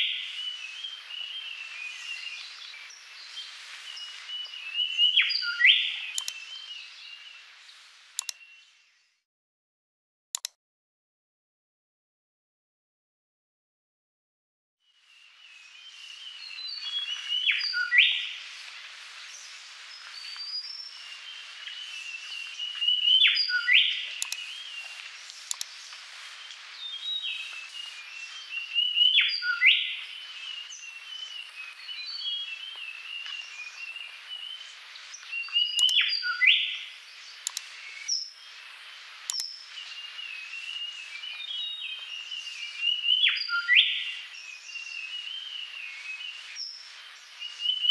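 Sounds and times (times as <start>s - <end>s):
birds chirping: 0.0s - 7.6s, 15.1s - 47.9s.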